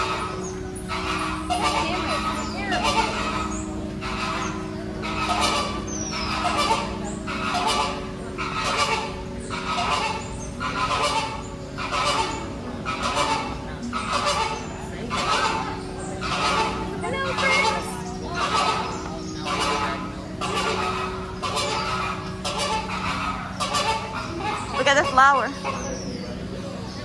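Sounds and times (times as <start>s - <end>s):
honking bird calls: 0.0s - 27.0s
steady low hum: 0.0s - 27.0s.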